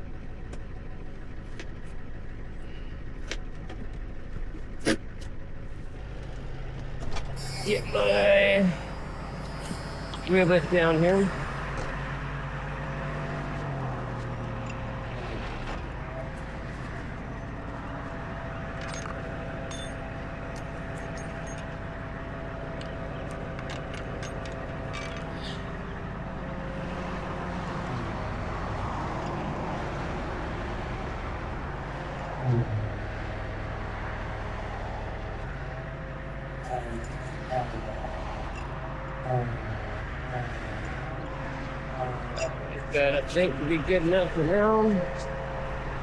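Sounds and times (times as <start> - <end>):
truck engine running: 0.0 - 46.0.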